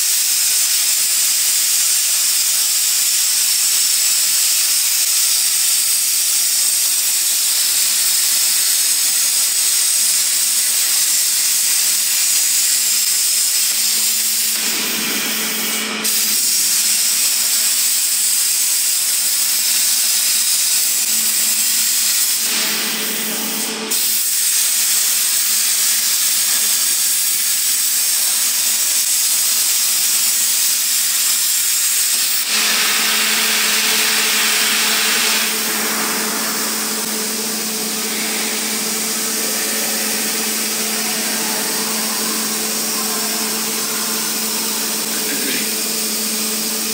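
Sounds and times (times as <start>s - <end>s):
plasma torch hissing: 0.0s - 46.9s.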